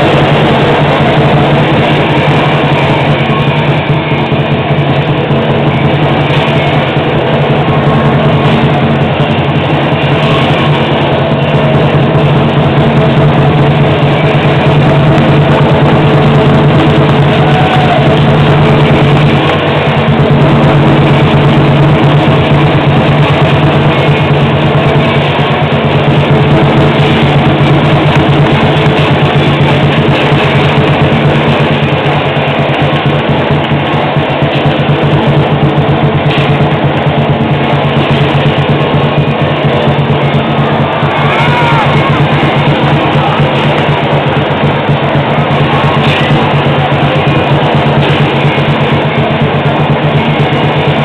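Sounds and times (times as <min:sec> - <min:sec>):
drum beating: 0:00.0 - 0:51.0.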